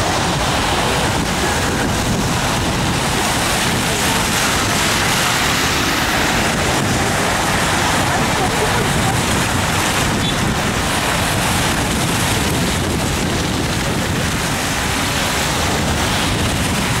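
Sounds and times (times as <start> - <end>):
cars driving past on wet street: 0.0 - 17.0
wind buffeting microphone: 0.0 - 17.0.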